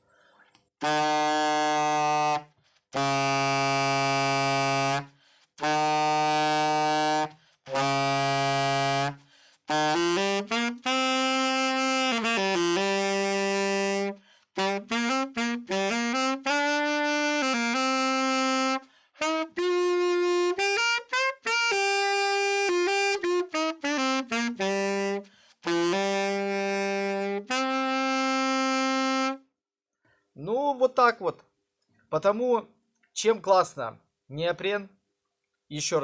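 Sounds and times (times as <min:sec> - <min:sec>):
solo saxophone melody: 0:00.8 - 0:29.6.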